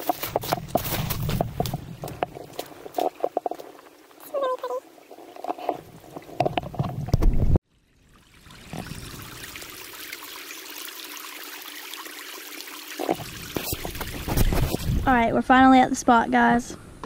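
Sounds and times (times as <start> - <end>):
creek running over stones: 0.0 - 16.0.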